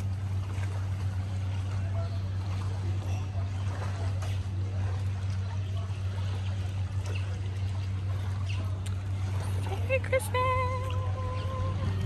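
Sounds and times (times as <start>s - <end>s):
steady low hum: 0.0s - 12.0s
water lapping against rocks: 0.0s - 12.0s.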